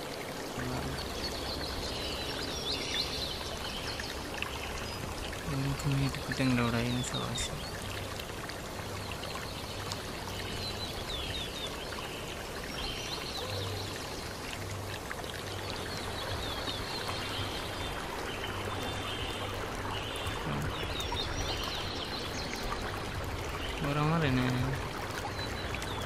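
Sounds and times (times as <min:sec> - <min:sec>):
rushing outdoor noise: 0:00.0 - 0:26.0.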